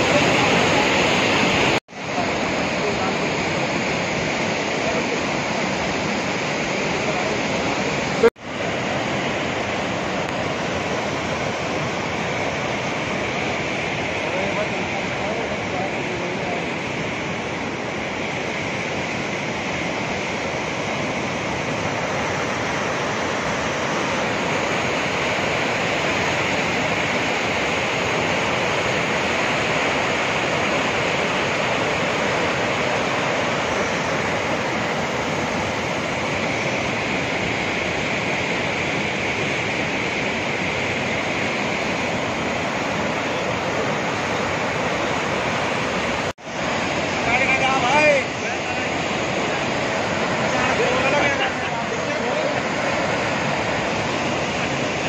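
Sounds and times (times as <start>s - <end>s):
flooded river rushing: 0.0s - 55.0s.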